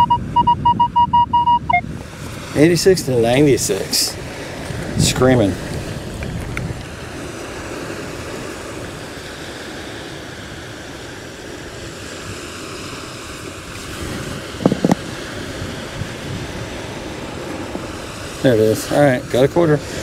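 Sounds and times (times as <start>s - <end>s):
ocean surf washing: 0.0s - 20.0s
wind on microphone: 0.0s - 20.0s.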